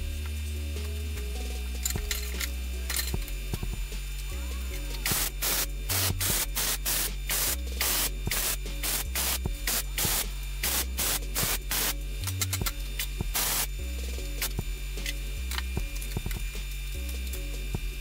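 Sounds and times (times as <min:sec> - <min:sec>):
background music with bass: 0:00.0 - 0:18.0
welding arc crackling: 0:00.0 - 0:18.0.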